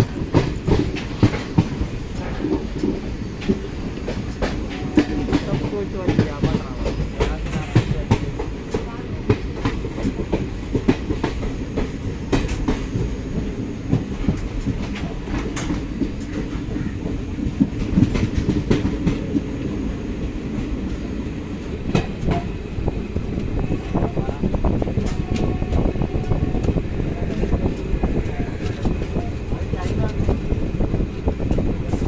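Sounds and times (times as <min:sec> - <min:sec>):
train coach rumbling: 0:00.0 - 0:32.0.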